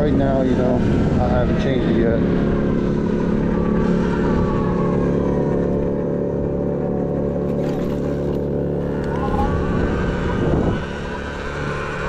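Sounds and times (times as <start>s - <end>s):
electric dirt bike motor humming: 0.0s - 12.0s.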